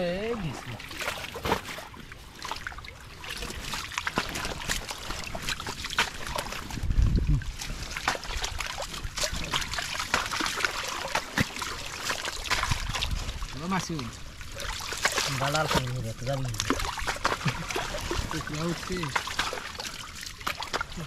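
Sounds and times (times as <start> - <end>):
water splashing by hand: 0.0 - 21.0.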